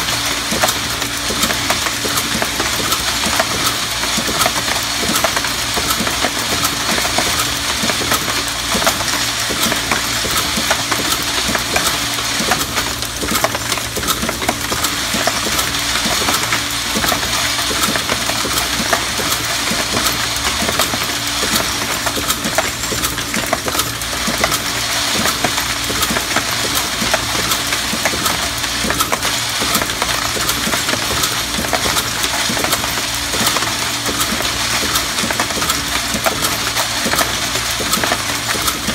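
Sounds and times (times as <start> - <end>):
machine motor hum: 0.0 - 38.9.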